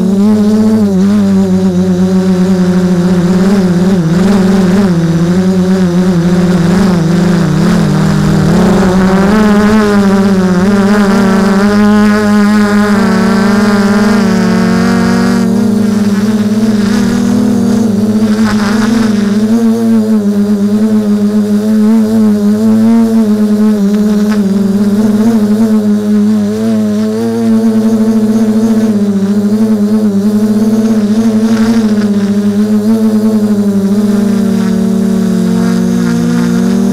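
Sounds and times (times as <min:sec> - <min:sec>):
drone motors buzzing: 0:00.0 - 0:36.9.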